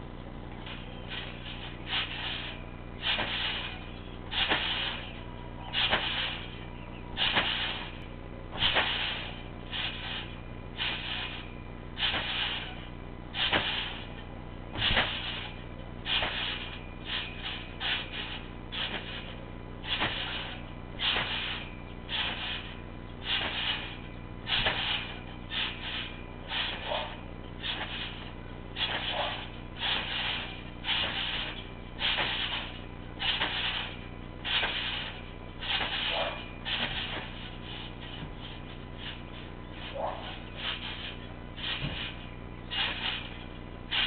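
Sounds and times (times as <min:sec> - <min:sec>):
trampoline springs creaking: 0:00.0 - 0:44.0.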